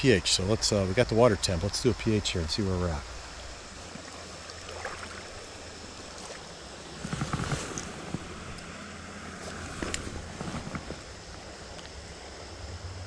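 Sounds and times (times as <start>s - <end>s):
small stream running: 0.0s - 13.0s.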